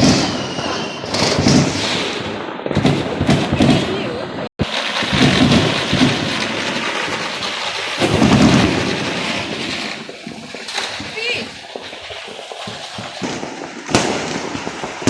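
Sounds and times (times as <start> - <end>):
deep firework booms: 0.0 - 15.0
fireworks crackling: 0.0 - 15.0.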